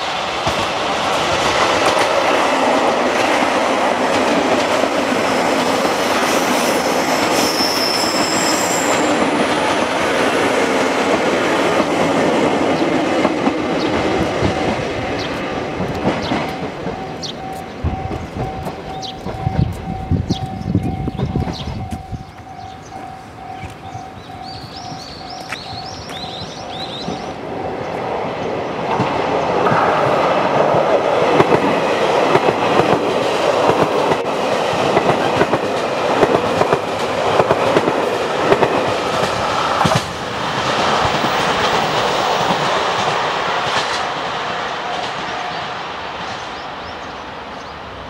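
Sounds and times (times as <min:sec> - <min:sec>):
train wheels clacking: 0:00.0 - 0:47.1.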